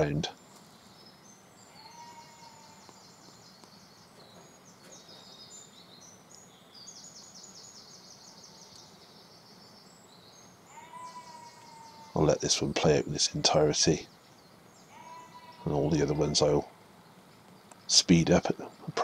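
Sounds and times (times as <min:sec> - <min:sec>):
small birds singing: 0:00.0 - 0:19.0.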